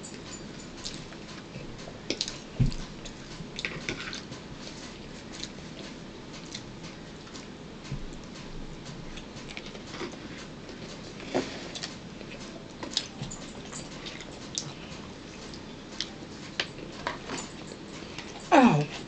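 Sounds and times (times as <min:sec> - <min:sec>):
chewing and mouth noises: 0:00.8 - 0:07.5, 0:09.1 - 0:19.0.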